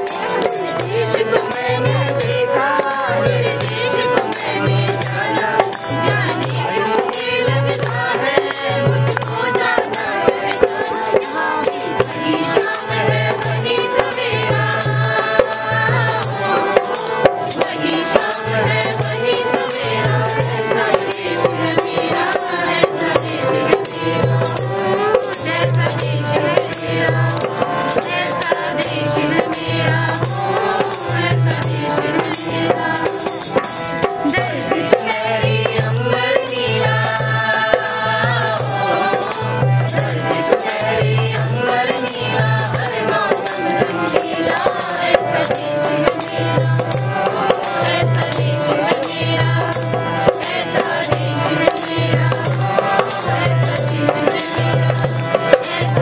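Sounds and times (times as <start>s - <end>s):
dholak drum strokes: 0.0s - 56.0s
group singing: 0.0s - 56.0s
harmonium: 0.0s - 56.0s
rattling percussion: 0.0s - 56.0s.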